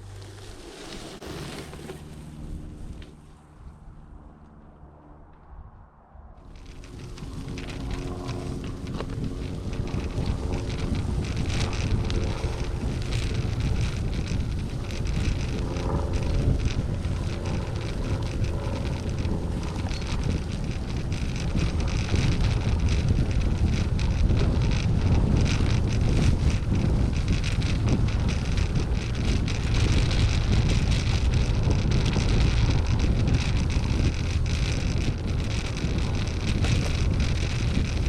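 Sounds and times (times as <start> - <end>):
bike tyres rattling on gravel: 0.0 - 3.7, 6.4 - 38.0
wind buffeting microphone: 1.1 - 38.0.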